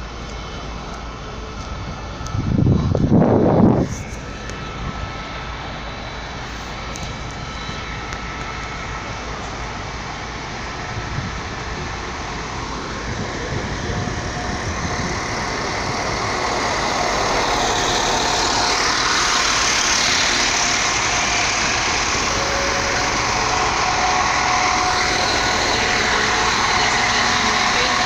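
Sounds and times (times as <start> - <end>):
diesel train engine running: 0.0 - 28.0
wheels on rails: 0.0 - 28.0.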